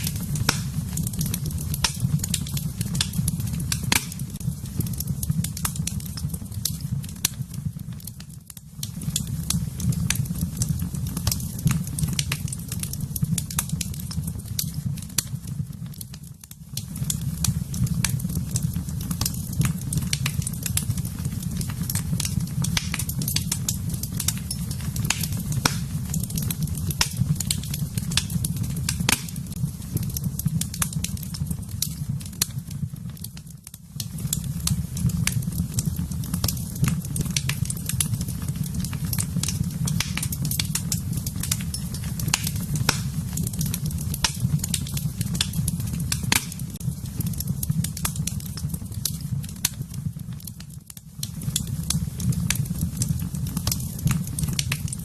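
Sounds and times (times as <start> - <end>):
fire popping and snapping: 0.0 - 55.0
low rumble of flames: 0.0 - 55.0.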